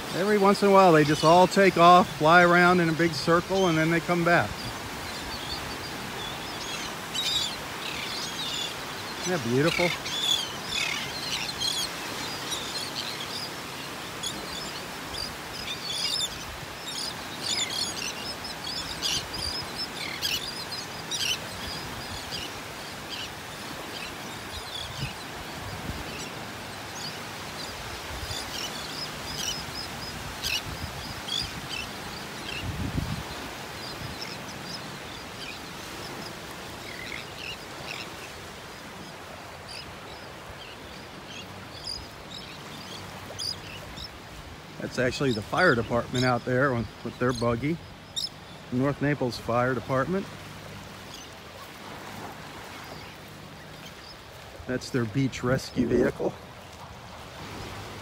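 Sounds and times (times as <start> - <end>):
gentle surf: 0.0 - 58.0
terns and gulls calling: 0.0 - 58.0.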